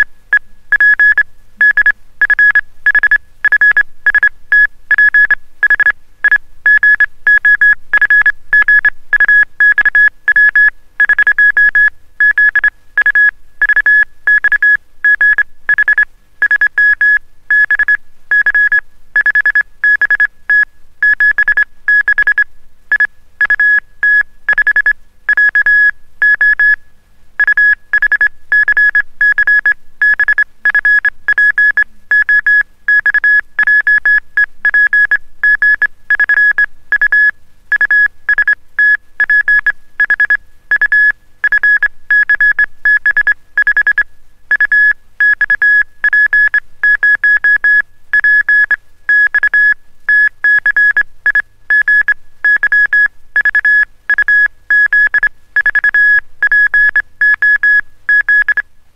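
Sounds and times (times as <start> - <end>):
morse code beeps: 0.7 - 5.9, 6.7 - 26.8, 27.4 - 58.6.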